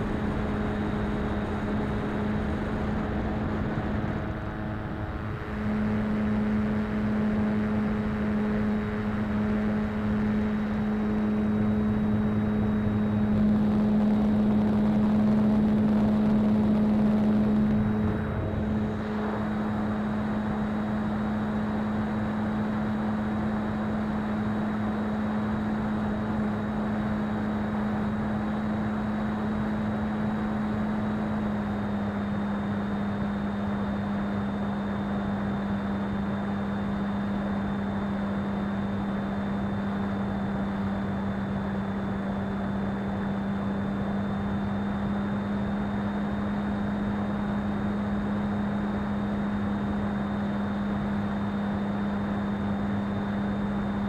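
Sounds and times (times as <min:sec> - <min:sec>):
model plane motor humming: 0:00.0 - 0:54.0.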